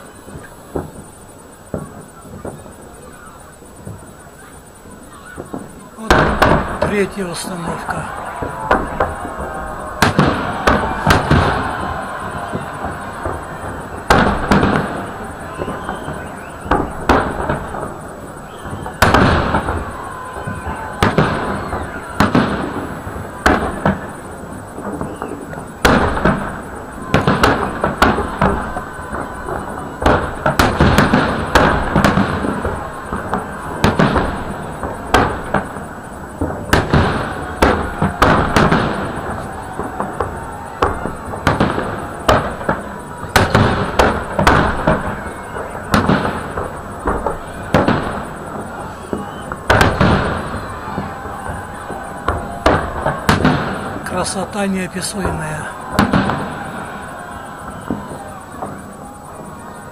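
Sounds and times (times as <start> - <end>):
firework crackling: 0.0 - 59.9
firework shells bursting with bangs: 0.0 - 59.9.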